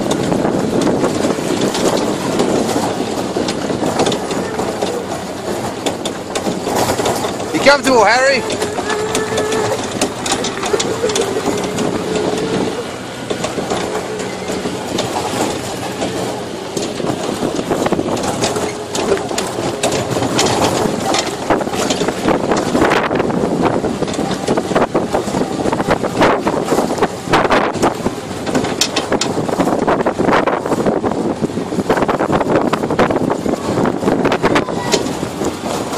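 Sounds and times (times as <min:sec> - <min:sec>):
cars rattling and knocking: 0:00.0 - 0:35.9
tractor engine running: 0:00.0 - 0:35.9.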